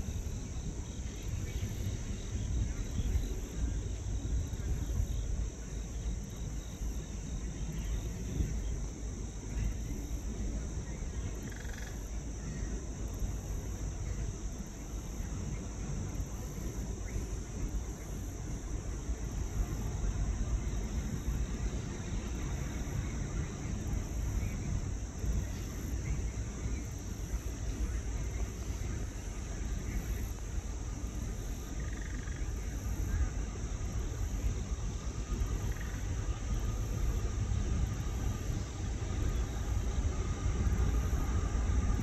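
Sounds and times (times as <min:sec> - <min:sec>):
constant low rumble: 0:00.0 - 0:42.0
insects droning: 0:00.0 - 0:42.0.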